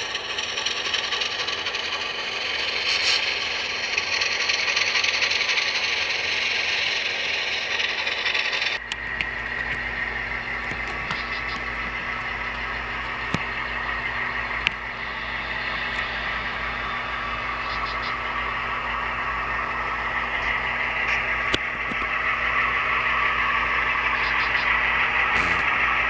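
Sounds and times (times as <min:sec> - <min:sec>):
model train whirring hum: 0:00.0 - 0:26.0.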